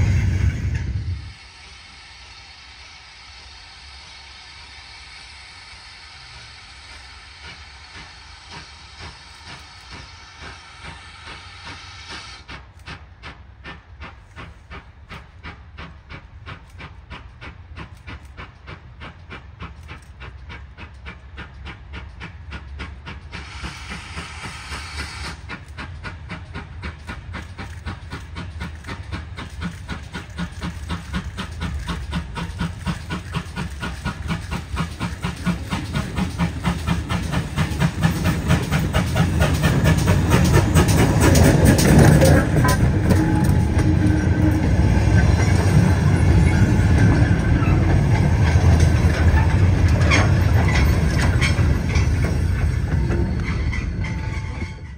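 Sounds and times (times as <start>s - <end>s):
steam hissing: 0.0s - 54.6s
steam locomotive exhaust beats: 0.0s - 54.9s.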